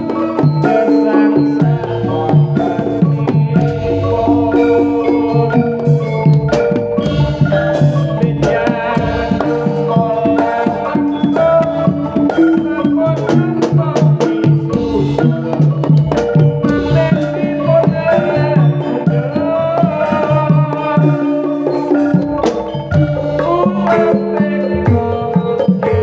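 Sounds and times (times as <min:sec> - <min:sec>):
hand drums in busy rhythm: 0:00.0 - 0:26.0
metallic percussion: 0:00.0 - 0:26.0
sustained pitched melody notes: 0:00.0 - 0:26.0.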